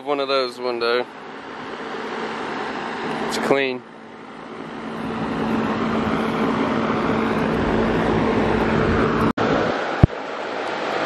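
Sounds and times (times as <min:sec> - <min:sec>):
vehicle engine running: 0:00.5 - 0:10.9.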